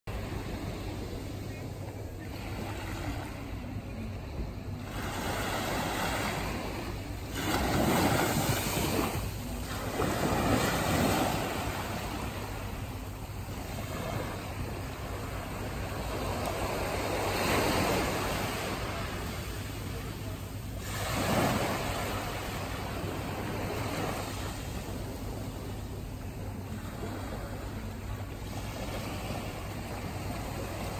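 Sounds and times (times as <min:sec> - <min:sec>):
small waves washing onto sand: 0:00.1 - 0:30.9.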